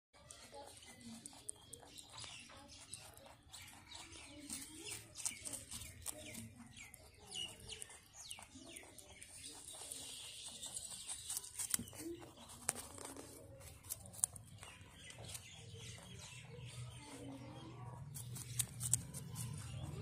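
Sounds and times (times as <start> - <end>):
rabbit chewing crunchily: 0.1 - 20.0.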